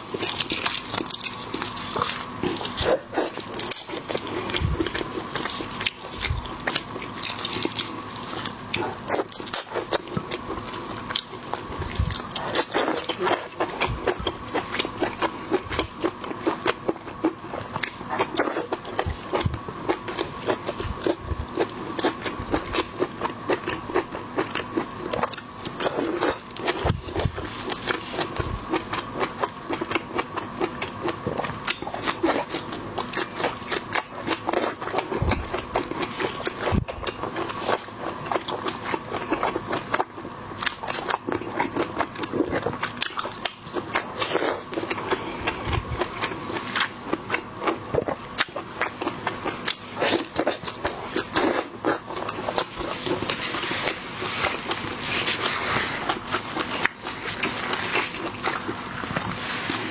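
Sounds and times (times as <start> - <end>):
chewing and crunching seafood: 0.0 - 59.9.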